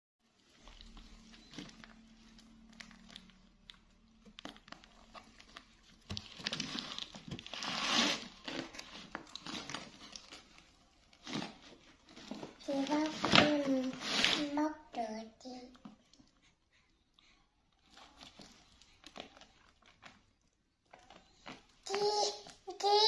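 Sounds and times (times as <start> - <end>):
plastic bag crinkling: 0.4 - 14.6, 17.7 - 23.0.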